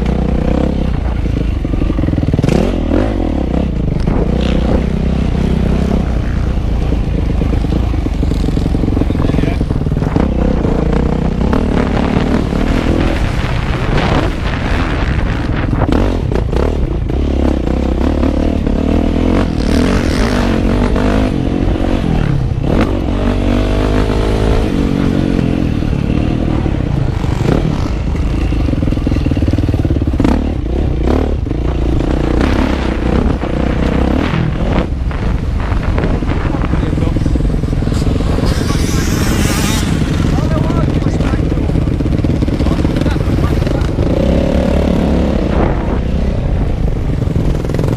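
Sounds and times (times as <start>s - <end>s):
motorbike engine revving: 0.0s - 47.9s.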